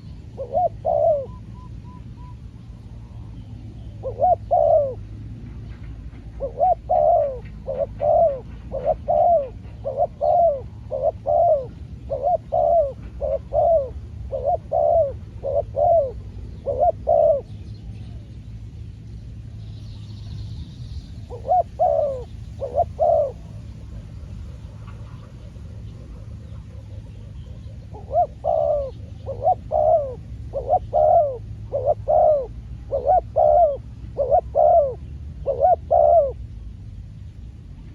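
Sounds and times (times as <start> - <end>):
dove cooing: 0.0 - 18.3, 21.2 - 36.8.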